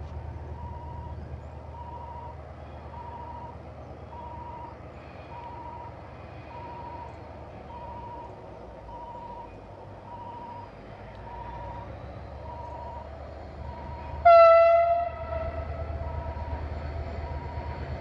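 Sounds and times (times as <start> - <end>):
diesel locomotives rumbling: 0.0 - 18.0
railway crossing alarm beeping: 0.5 - 18.0.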